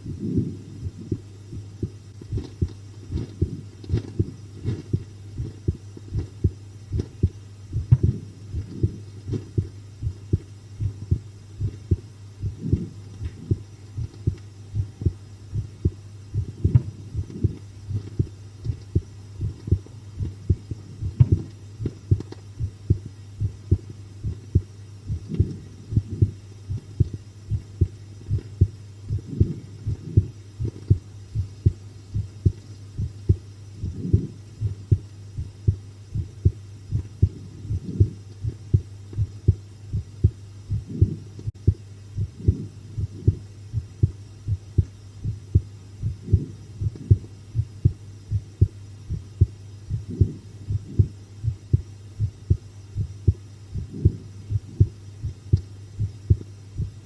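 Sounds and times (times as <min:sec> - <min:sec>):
heartbeat thumps: 0:00.0 - 0:57.0
low hum: 0:00.0 - 0:57.0.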